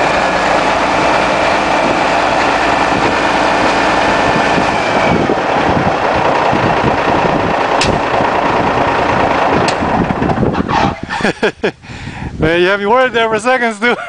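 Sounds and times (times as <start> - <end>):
diesel engine running loudly: 0.0 - 11.6.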